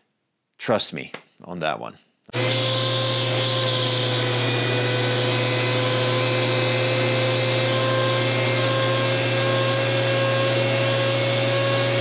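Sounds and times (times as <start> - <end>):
pneumatic sander whine and hiss: 2.4 - 12.0.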